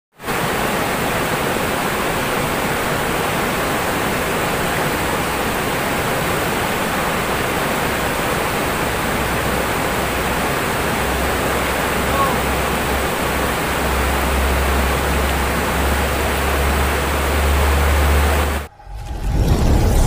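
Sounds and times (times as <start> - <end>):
river rushing over rocks: 0.2 - 18.7.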